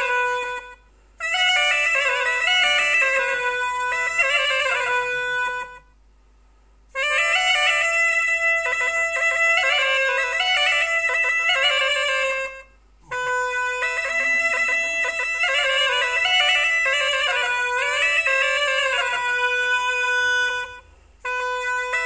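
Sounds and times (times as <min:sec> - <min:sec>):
reed pipe melody: 0:00.0 - 0:06.0, 0:06.9 - 0:22.0.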